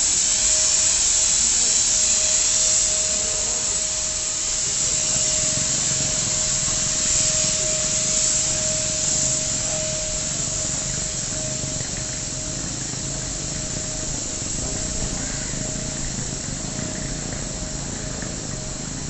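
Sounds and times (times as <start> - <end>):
hiss of spray mist: 0.0 - 19.0
sprayer motor whine: 0.0 - 19.0.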